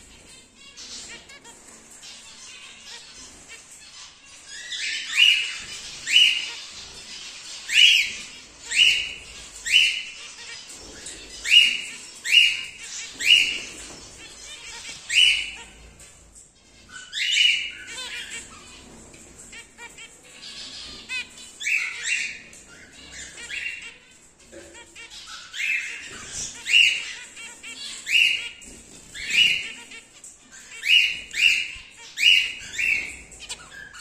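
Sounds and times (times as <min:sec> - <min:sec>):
cockatiels calling harshly: 0:00.0 - 0:34.0.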